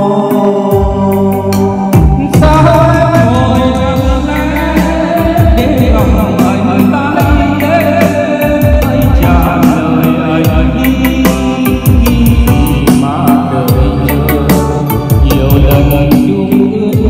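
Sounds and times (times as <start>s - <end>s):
song with steady drum beat: 0.0s - 17.0s.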